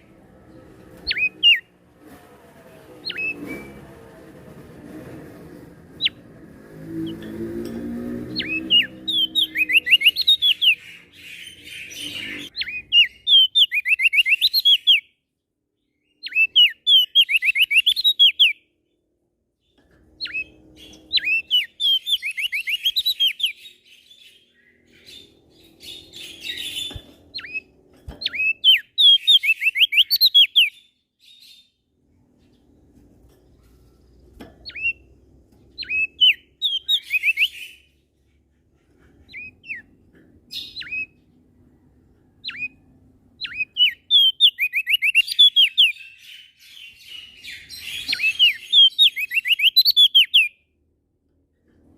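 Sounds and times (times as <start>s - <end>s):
songbird singing: 0.0s - 1.8s, 2.9s - 4.2s, 7.0s - 50.8s.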